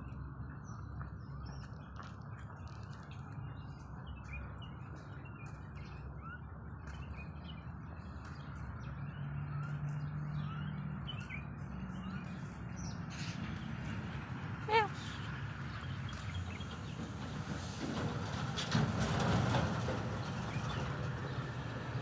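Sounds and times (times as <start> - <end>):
small birds chirping: 0.0 - 17.3, 20.1 - 22.0.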